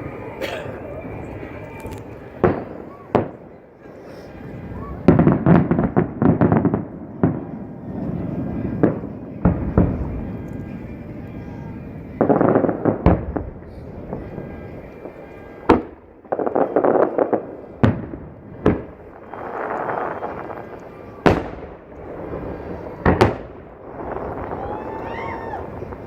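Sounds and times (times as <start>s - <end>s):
fireworks booming: 0.0s - 3.5s, 4.5s - 26.0s.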